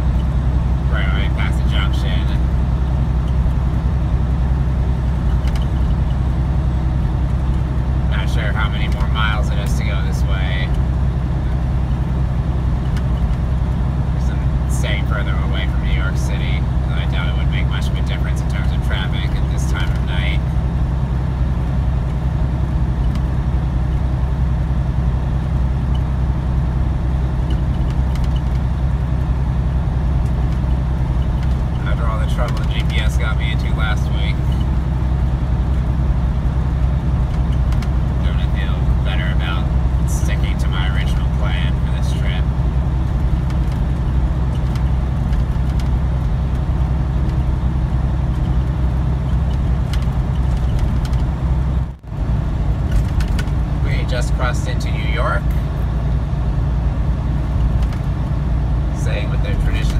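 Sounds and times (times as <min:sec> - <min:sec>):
road and tyre noise: 0:00.0 - 0:59.9
truck diesel engine droning: 0:00.0 - 0:59.9.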